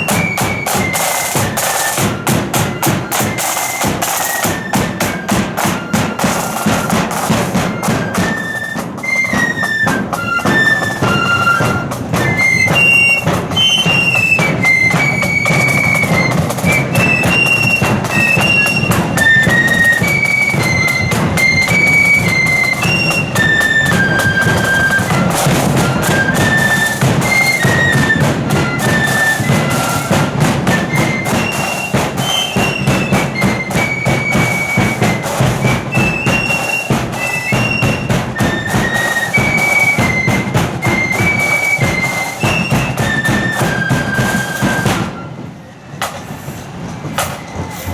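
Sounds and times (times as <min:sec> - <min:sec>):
side drums and bass drum: 0:00.0 - 0:45.2
flutes playing a melody: 0:00.0 - 0:45.8.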